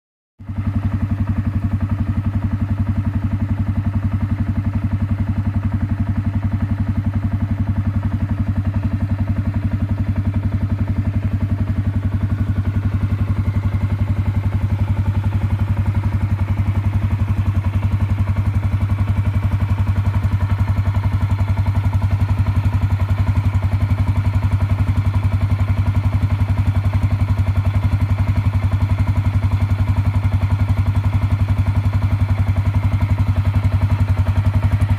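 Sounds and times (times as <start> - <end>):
atv engine idling: 0.4 - 34.9.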